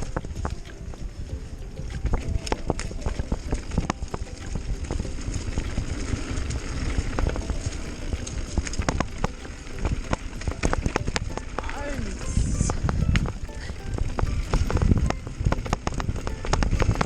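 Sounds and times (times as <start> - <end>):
bike rattling over bumps: 0.0 - 17.0.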